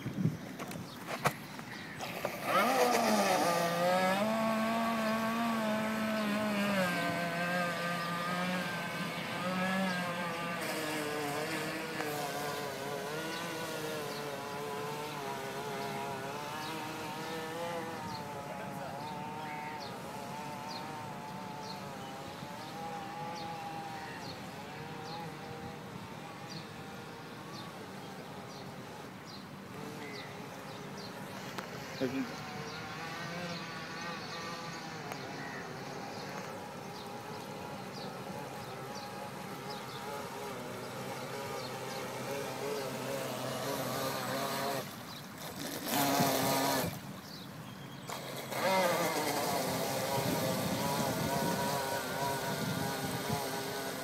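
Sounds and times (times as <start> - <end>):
model boat electric motor whining: 2.0 - 54.0.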